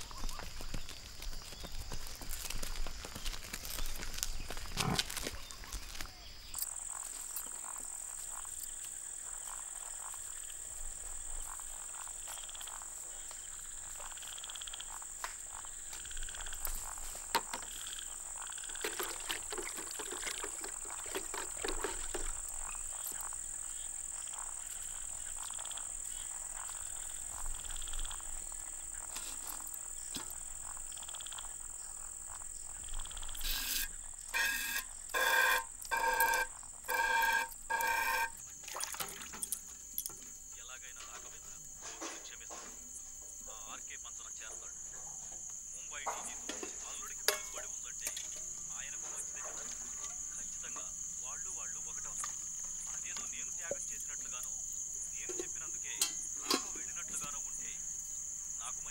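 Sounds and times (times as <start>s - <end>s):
frogs croaking: 0.0s - 58.9s
insect drone: 0.0s - 58.9s.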